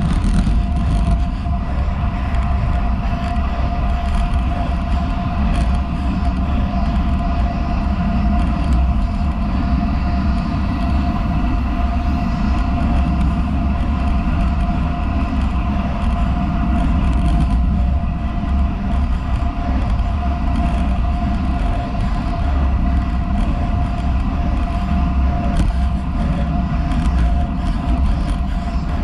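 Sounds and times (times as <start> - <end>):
thin steady whine: 0.0 - 29.0
wind buffeting microphone: 0.0 - 29.0.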